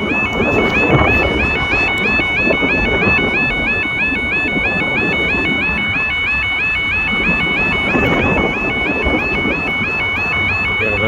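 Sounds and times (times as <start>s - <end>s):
low rumble of wind or traffic: 0.0s - 11.0s
two-tone electronic warning alarm: 0.0s - 11.0s.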